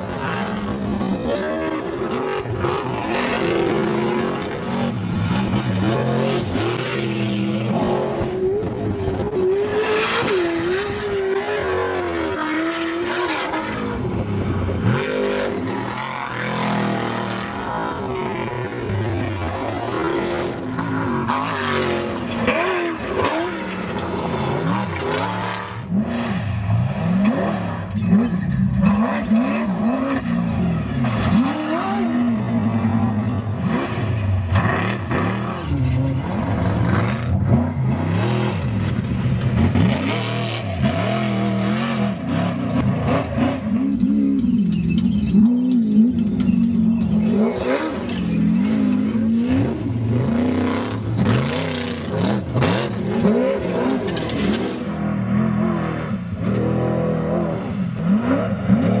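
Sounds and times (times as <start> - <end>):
race truck engines revving: 0.0 - 59.0.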